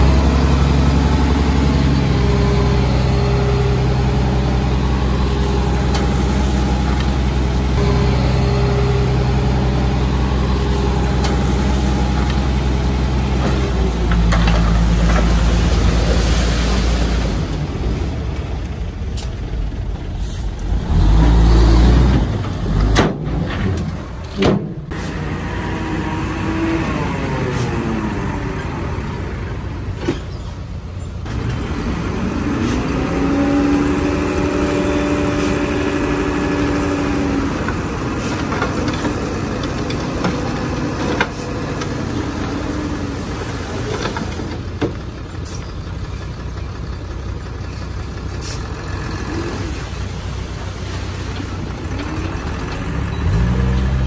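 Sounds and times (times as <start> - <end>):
heavy diesel engine revving: 0.0 - 18.7, 19.5 - 30.0, 31.2 - 54.0.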